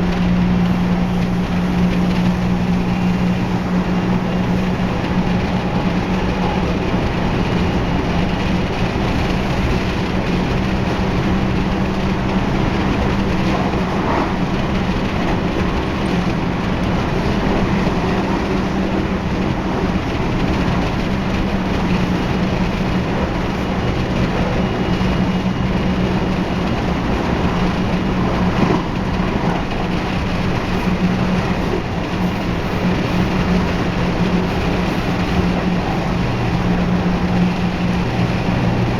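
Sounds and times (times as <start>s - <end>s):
electric train low hum: 0.0s - 38.9s
wheel-on-rail noise: 0.0s - 38.9s.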